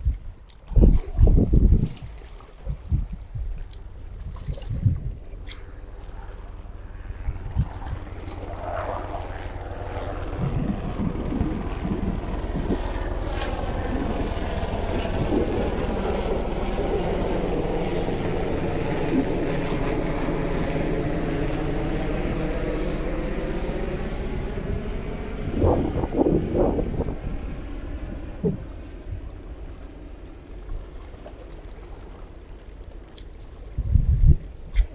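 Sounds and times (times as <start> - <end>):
motor engine droning: 5.1 - 33.1.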